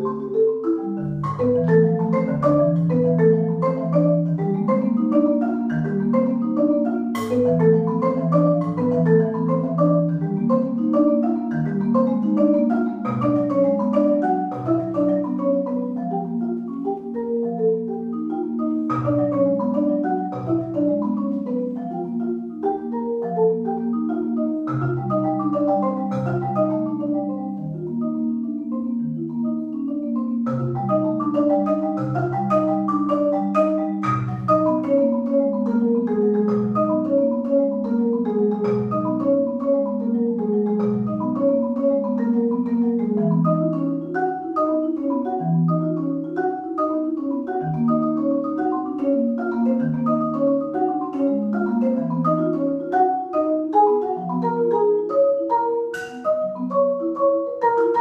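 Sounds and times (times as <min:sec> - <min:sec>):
marimba playing: 0:00.0 - 0:58.0.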